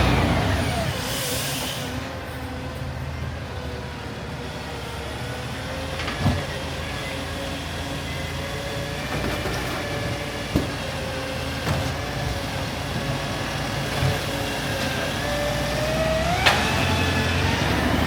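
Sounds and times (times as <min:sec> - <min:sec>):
garbage truck running: 0:00.0 - 0:18.0.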